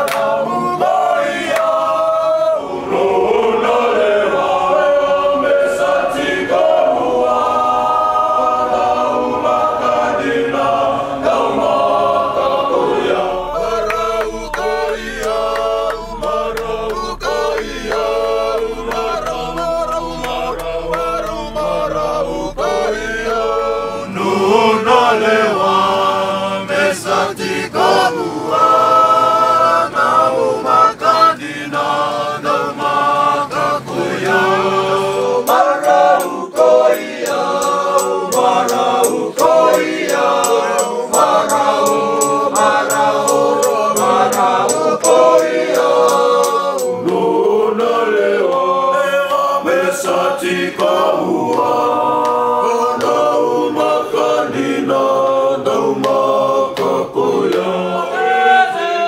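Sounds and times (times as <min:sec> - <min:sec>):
men singing in harmony: 0:00.0 - 0:59.0.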